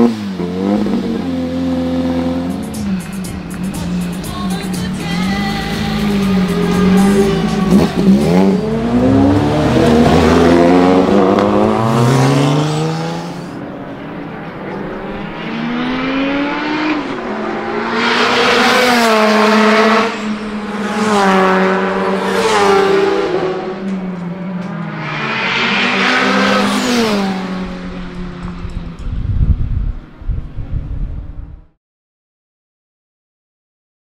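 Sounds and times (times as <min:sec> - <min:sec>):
racing car engine accelerating: 0:00.0 - 0:29.0.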